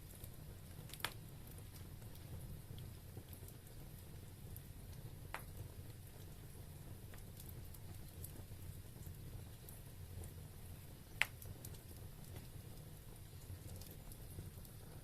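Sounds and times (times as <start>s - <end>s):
fire crackling: 0.0s - 15.0s
low rumble of flames: 0.0s - 15.0s.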